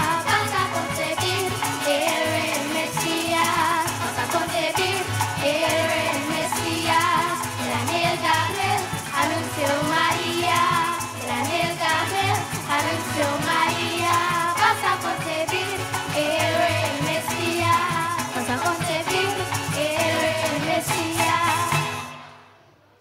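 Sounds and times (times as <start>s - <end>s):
children's choir singing: 0.0s - 22.4s
band on strings and percussion: 0.0s - 22.7s.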